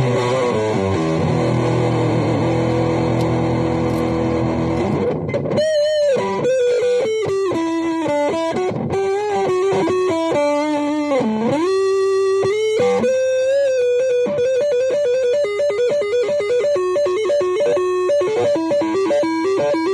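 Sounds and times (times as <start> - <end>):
electric guitar lead with bends: 0.0 - 19.9.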